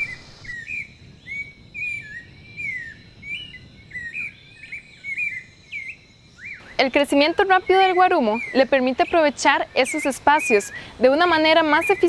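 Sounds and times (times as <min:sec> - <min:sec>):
birds whistling: 0:00.0 - 0:12.0
high bird chirps: 0:00.0 - 0:12.0.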